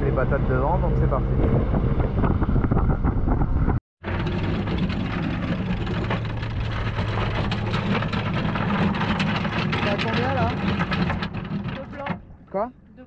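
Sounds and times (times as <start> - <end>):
boat engine drone: 0.0 - 12.5
wind rumbling on microphone: 0.0 - 13.0.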